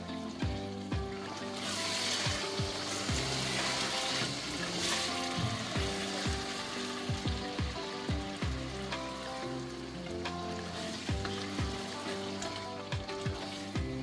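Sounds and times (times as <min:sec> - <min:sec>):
background music with drum beat: 0:00.0 - 0:14.0
sauce sizzling in a pot: 0:00.0 - 0:14.0.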